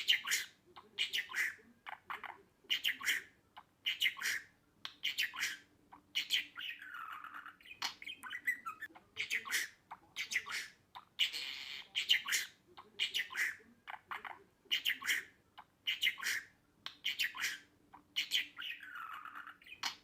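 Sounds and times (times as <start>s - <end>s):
budgerigar chirping and squawking: 0.0s - 20.0s.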